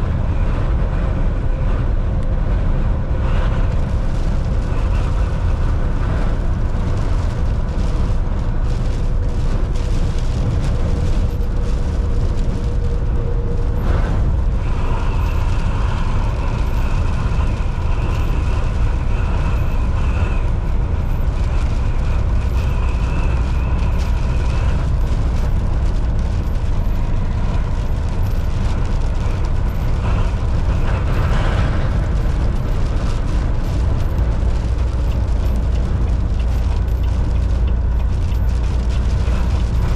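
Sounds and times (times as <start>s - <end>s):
faint whine: 0.0s - 39.9s
truck engine and road rumble: 0.0s - 39.9s.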